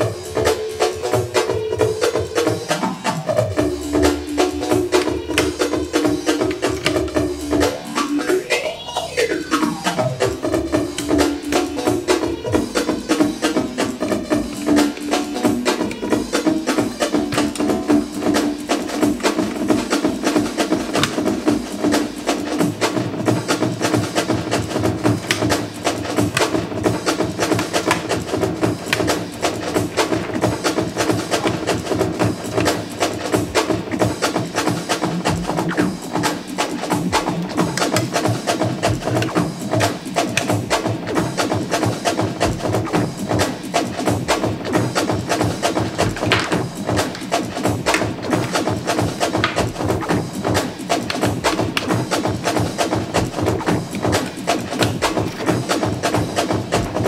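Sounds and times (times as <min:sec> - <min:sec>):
breakbeat drum loop: 0:00.0 - 0:57.0.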